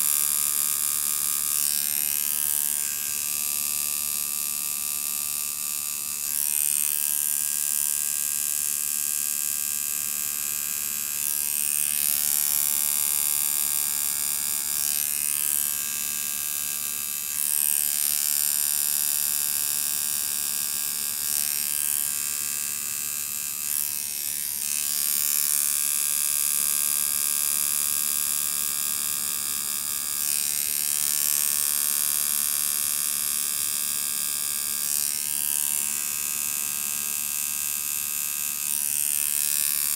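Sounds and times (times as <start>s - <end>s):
tattoo machine buzzing: 0.0s - 39.9s.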